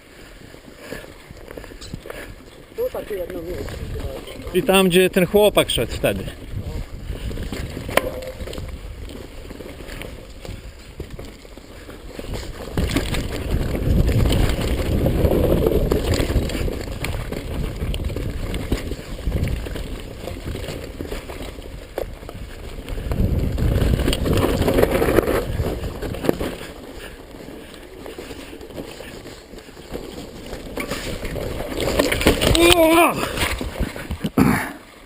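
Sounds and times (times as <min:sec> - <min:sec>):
bike tyres on dirt trail: 0:00.0 - 0:35.0
wind rumbling on microphone: 0:01.3 - 0:34.4.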